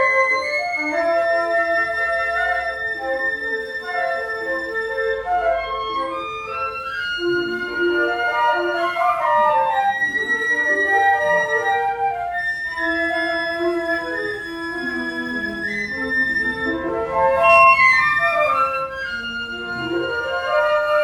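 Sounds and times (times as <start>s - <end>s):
flute trio playing: 0.0s - 21.0s.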